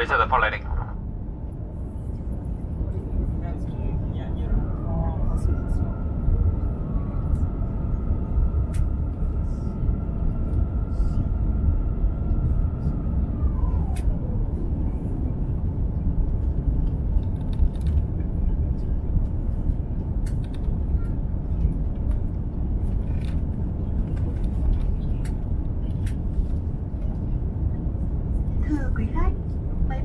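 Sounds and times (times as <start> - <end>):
aircraft cabin roar: 0.0 - 30.0.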